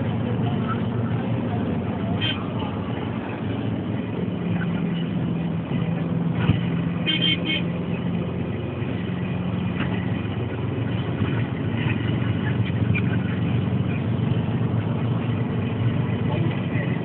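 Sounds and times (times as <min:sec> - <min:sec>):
van engine and road drone: 0:00.0 - 0:17.0.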